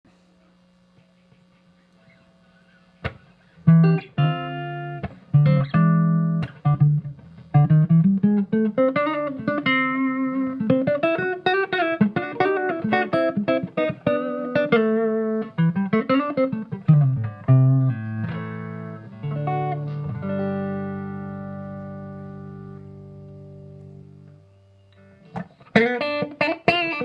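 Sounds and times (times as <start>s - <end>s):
faint hum: 0.1s - 26.2s
clean electric guitar playing: 3.0s - 27.0s.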